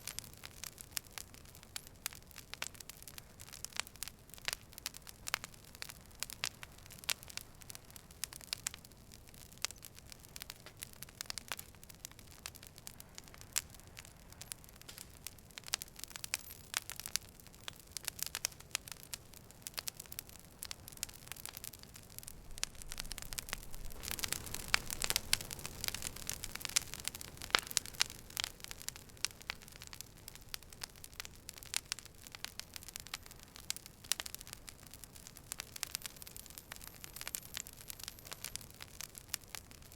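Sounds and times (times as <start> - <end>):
campfire wood popping: 0.0 - 39.9
soft hiss of flames: 0.0 - 39.9.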